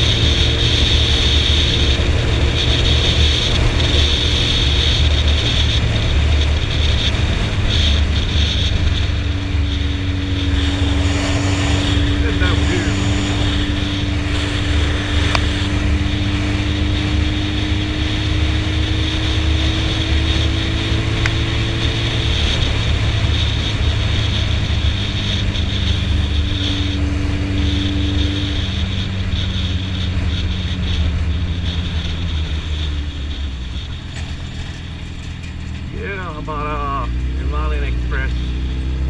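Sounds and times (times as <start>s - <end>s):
motorcycle engine cruising: 0.0s - 39.0s
wind rumble on microphone: 0.0s - 39.0s.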